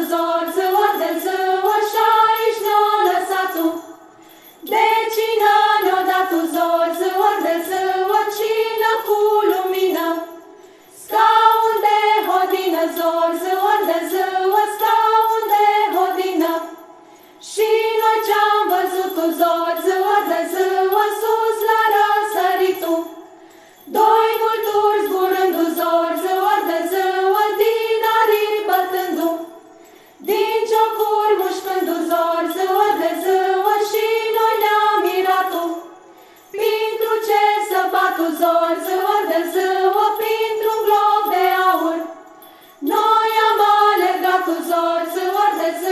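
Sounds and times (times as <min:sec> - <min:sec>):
small bells jingling: 0:00.0 - 0:45.9
women's choir singing carol: 0:00.0 - 0:45.9.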